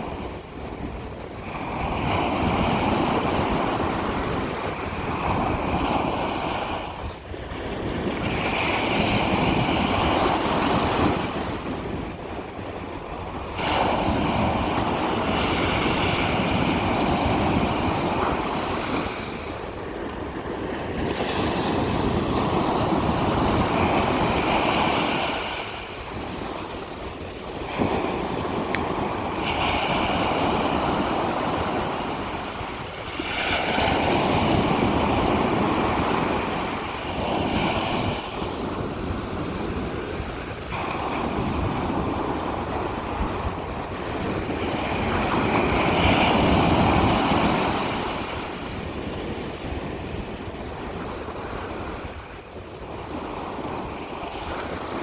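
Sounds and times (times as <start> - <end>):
waves crashing on a beach: 0.0 - 55.0.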